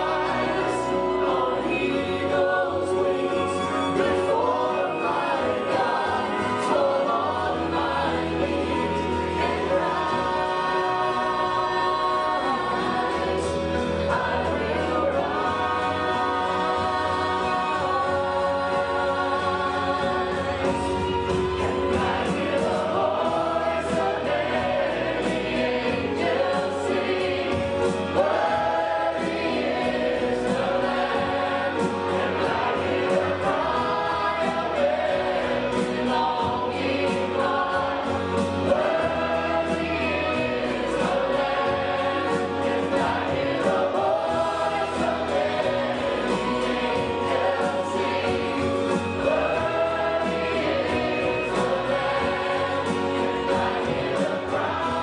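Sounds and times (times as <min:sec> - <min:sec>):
choir singing gospel song: 0:00.0 - 0:55.0.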